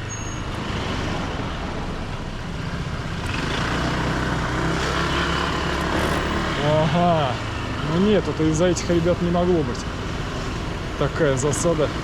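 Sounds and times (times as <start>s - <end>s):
road noise: 0.0s - 12.0s
traffic engine hum: 0.0s - 12.0s.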